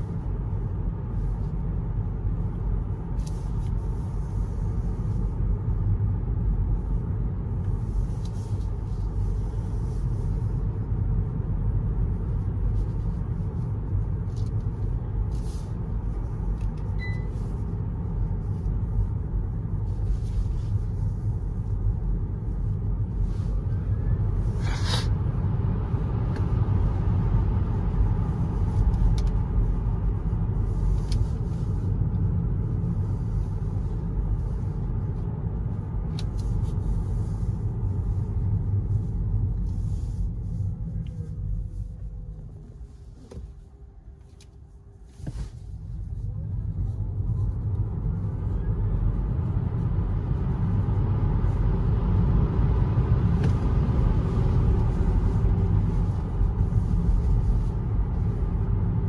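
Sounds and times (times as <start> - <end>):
road and tyre rumble in car cabin: 0.0 - 59.0.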